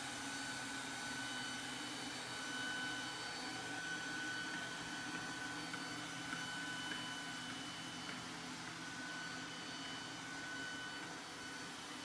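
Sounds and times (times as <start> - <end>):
robotic vacuum cleaner running: 0.0 - 12.0.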